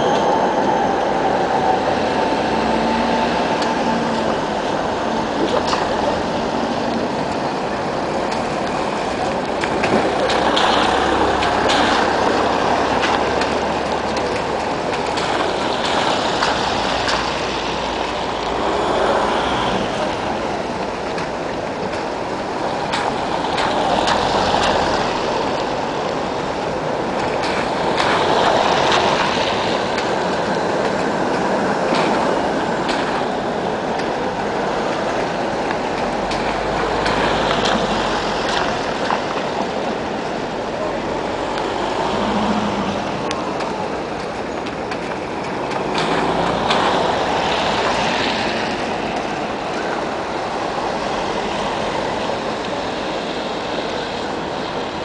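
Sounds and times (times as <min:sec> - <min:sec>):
cars driving over wet cobblestones: 0:00.0 - 0:55.0.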